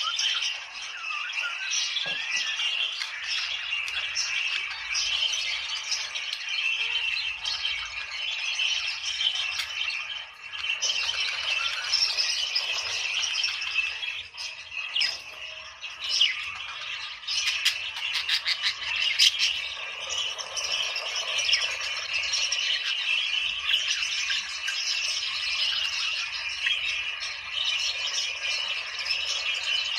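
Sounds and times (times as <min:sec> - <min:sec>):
budgerigars chattering and warbling: 0:00.0 - 0:29.9
sharp chirps and squawks: 0:00.0 - 0:29.9.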